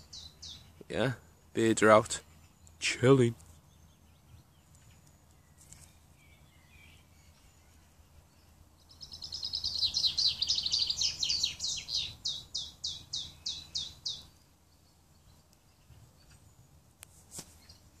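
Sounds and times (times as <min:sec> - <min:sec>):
songbird trill: 0:00.0 - 0:18.0.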